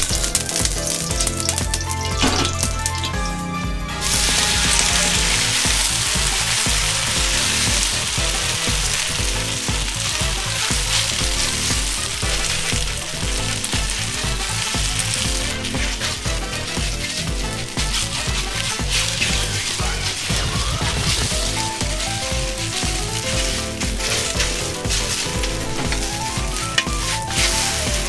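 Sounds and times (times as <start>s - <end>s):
noodles sizzling in wok: 0.0s - 3.1s, 4.0s - 28.0s
background music with beat: 0.0s - 28.0s.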